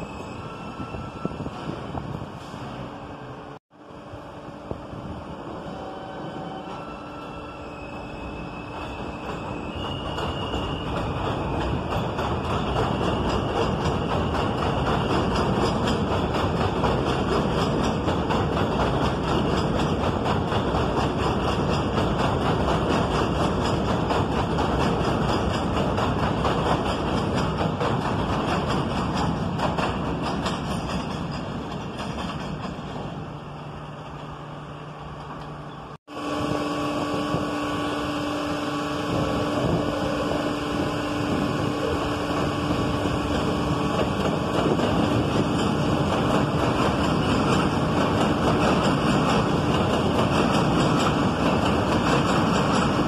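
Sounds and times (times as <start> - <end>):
subway train on elevated track: 0.0 - 53.0.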